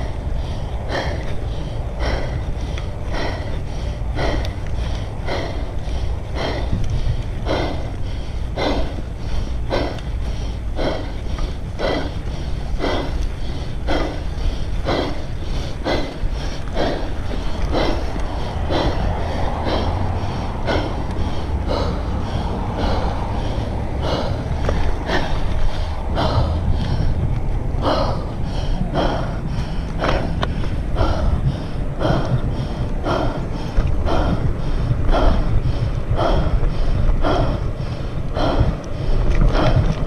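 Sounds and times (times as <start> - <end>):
heavy rhythmic breathing: 0.0 - 40.0
wind on microphone: 0.0 - 40.0.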